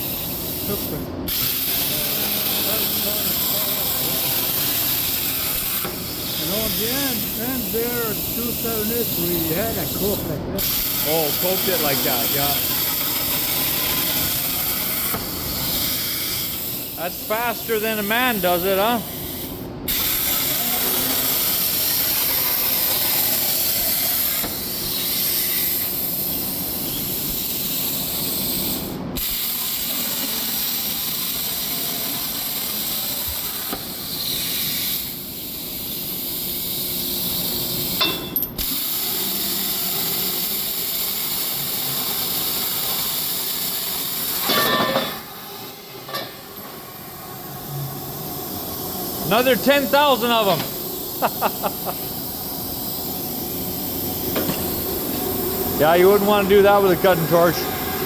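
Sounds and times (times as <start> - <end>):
plasma cutter hissing: 0.0 - 58.0.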